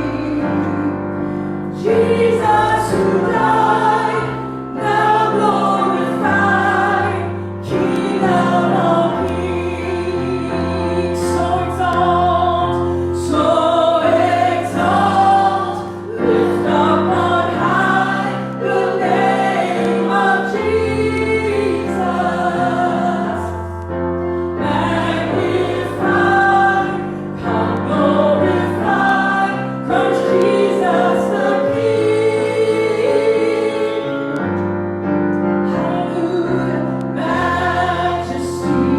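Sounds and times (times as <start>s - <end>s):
voices singing gospel song: 0.0s - 34.7s, 35.6s - 38.9s.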